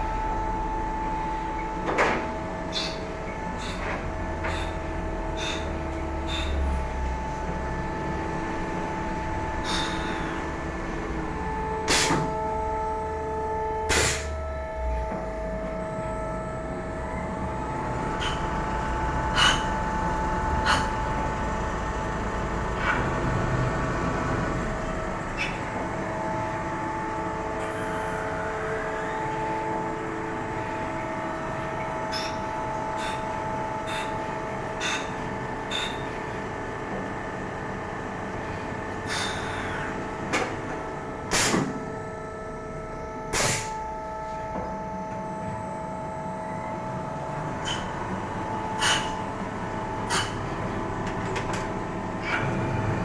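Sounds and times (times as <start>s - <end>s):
lathe machine hum: 0.0s - 53.0s.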